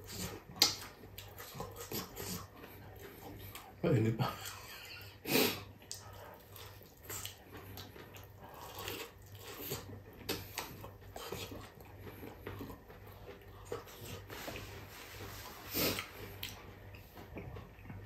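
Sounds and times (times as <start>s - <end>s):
person chewing corn: 0.0s - 18.0s.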